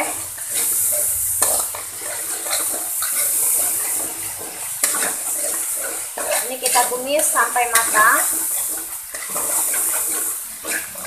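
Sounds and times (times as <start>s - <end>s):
metal spoon scraping wok: 0.0s - 11.0s
paste sizzling in hot oil: 0.0s - 11.0s.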